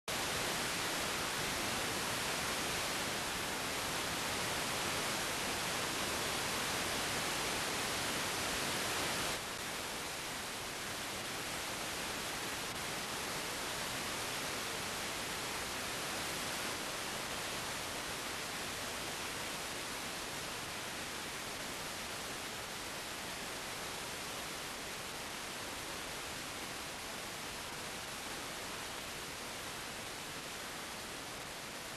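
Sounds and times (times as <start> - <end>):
tv static hiss: 0.1 - 31.9.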